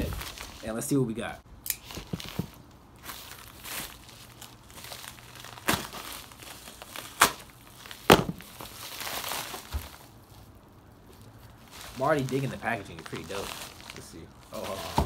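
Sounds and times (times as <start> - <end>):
plastic bag crackles: 0.0 - 0.8, 1.8 - 15.0
plastic bag crinkling and rustling: 0.0 - 0.9, 1.8 - 15.0.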